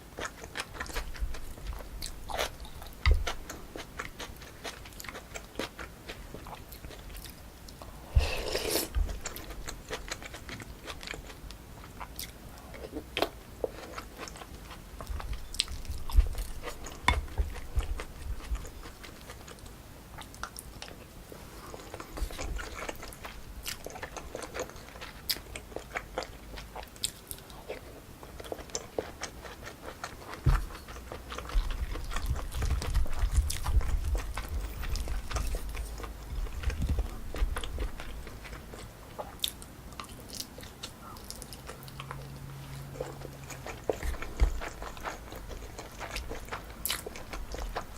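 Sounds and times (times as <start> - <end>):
chewing and biting food: 0.0 - 47.9.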